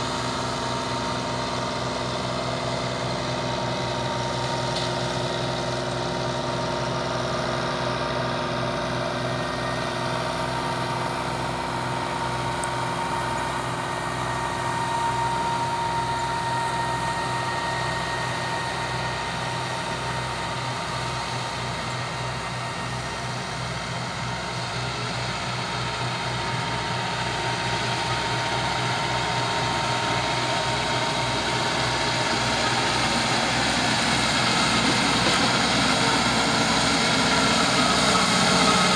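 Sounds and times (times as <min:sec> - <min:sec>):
mower working: 0:00.0 - 0:38.9
tractor engine running: 0:00.0 - 0:38.9.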